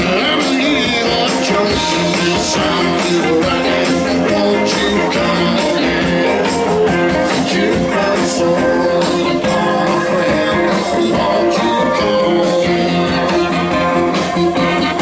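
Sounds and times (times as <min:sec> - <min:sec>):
live blues-rock band: 0:00.0 - 0:15.0.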